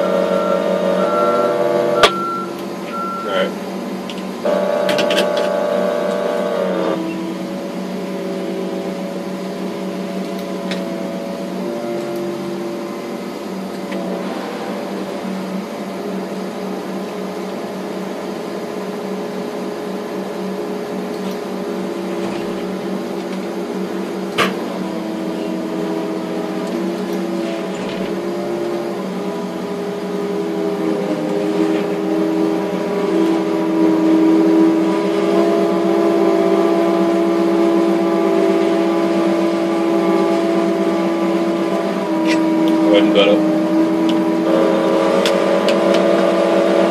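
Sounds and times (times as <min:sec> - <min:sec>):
crane engine and hydraulics droning: 0:00.0 - 0:46.9.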